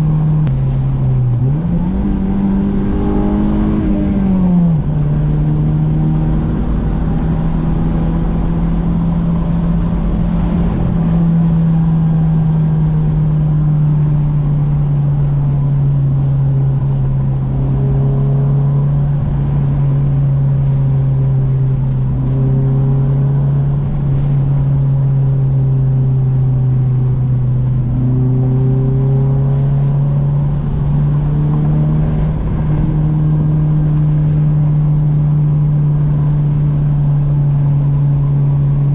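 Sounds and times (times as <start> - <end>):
car engine droning: 0.0 - 38.9
tyre and road noise: 0.0 - 38.9.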